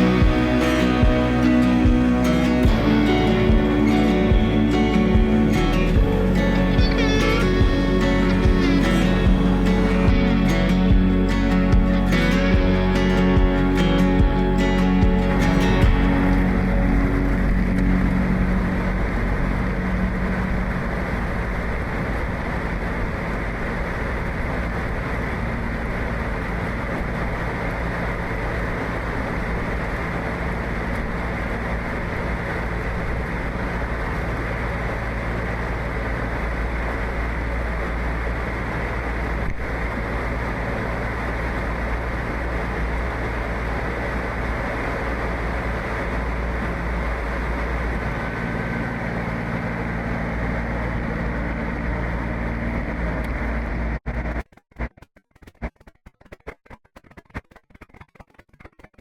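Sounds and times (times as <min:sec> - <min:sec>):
rushing noise: 0:00.0 - 0:54.4
vehicle engine running: 0:00.0 - 0:59.0.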